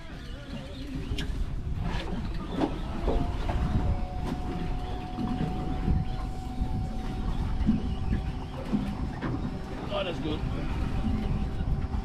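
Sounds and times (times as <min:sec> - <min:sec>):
water slopping against hull: 0:00.1 - 0:12.0
faint steady whine: 0:00.9 - 0:12.0
wind rumble: 0:01.2 - 0:12.0.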